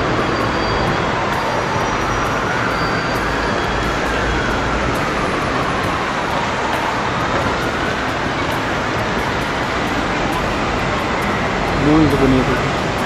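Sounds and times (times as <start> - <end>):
traffic rumble and hiss: 0.0 - 13.0.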